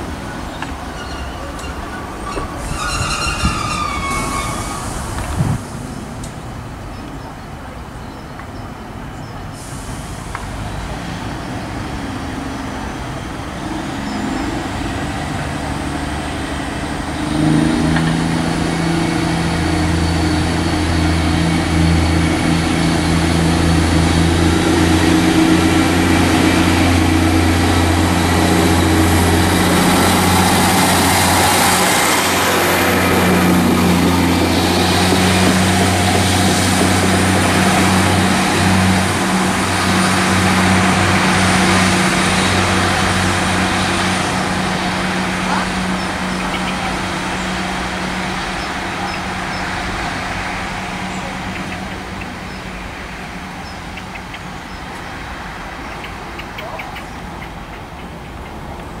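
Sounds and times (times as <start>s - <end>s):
rushing noise: 0.0s - 7.2s, 9.4s - 56.5s
diesel train engine droning: 0.0s - 8.2s, 8.8s - 59.0s.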